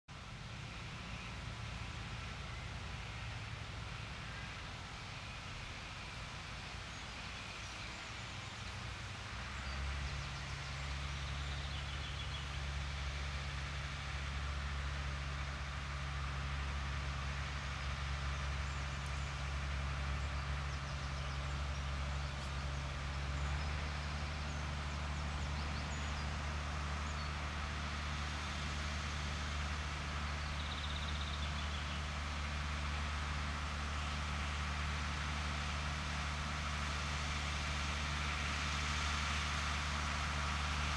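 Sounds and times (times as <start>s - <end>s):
tractor diesel engine running: 0.1s - 40.9s
birds chirping: 0.4s - 36.2s.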